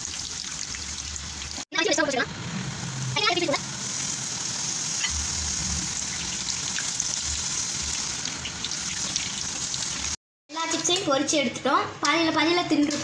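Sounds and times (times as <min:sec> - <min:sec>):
chips deep-frying in hot oil: 0:00.0 - 0:11.4.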